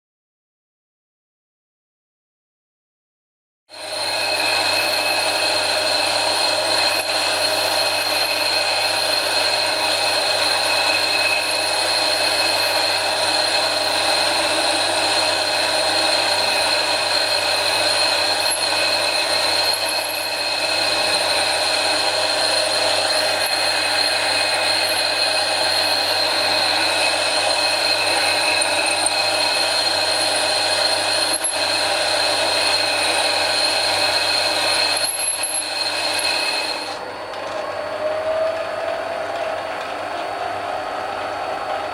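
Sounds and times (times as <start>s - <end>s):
mini lathe whining: 3.7s - 41.9s.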